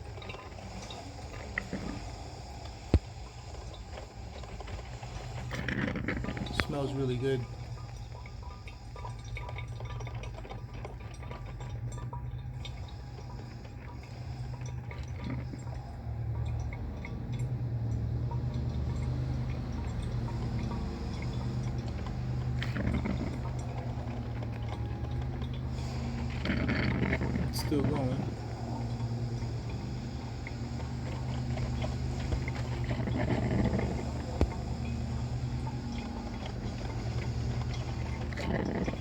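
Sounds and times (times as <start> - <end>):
coffee maker dripping: 0.0 - 39.0
low machine hum: 0.0 - 39.0.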